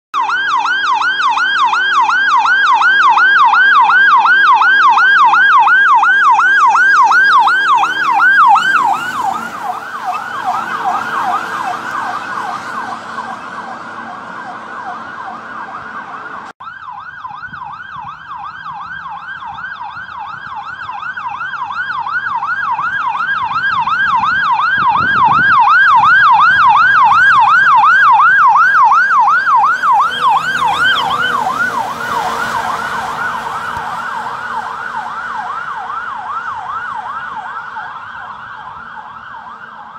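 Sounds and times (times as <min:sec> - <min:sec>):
fire engine siren yelping: 0:00.1 - 0:39.9.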